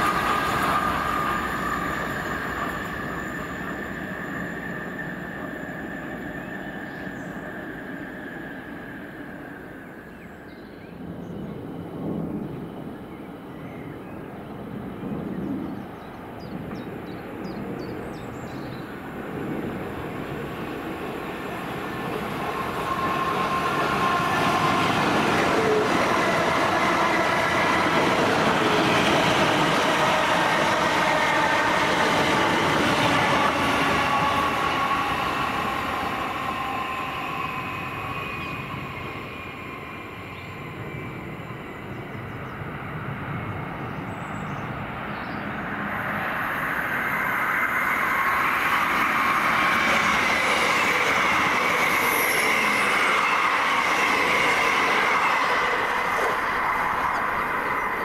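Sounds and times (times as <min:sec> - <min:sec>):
train passing at speed: 0:00.0 - 0:58.0.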